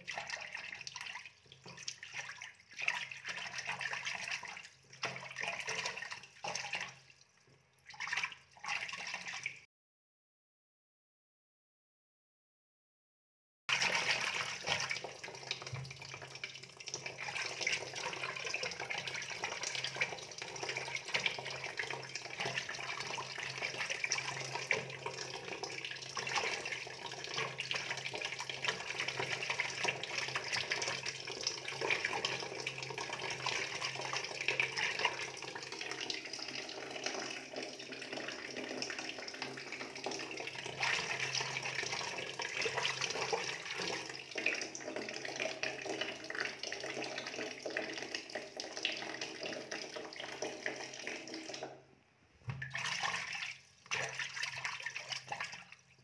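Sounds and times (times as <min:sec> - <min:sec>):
water splashing and trickling: 0:00.0 - 0:09.7, 0:13.7 - 0:51.8, 0:52.4 - 0:56.0.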